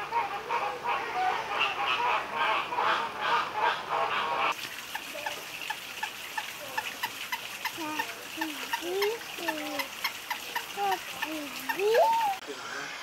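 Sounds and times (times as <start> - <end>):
birds honking calls: 0.0 - 12.4.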